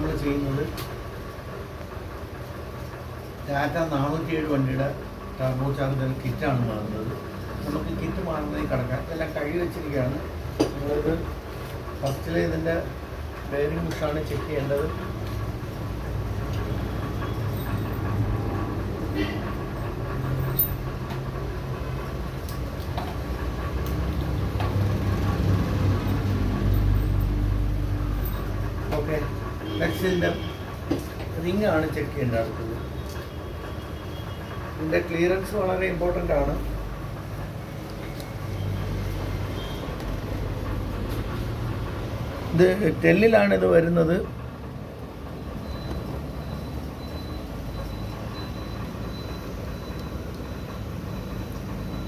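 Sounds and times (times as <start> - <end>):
low engine rumble: 0.0 - 52.0.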